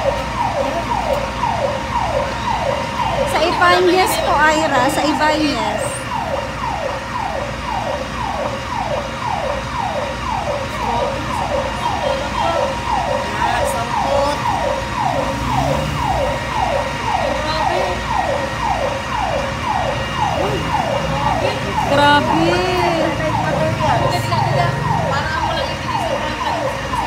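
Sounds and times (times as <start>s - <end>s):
fire truck siren wailing: 0.0s - 27.0s.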